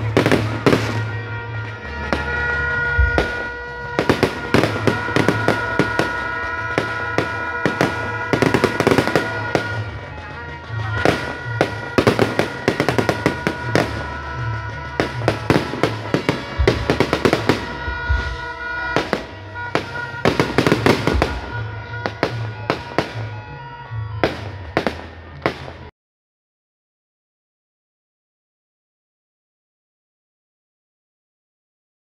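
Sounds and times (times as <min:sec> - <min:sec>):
fireworks bangs and crackling: 0:00.0 - 0:25.9
music playing: 0:00.0 - 0:25.9.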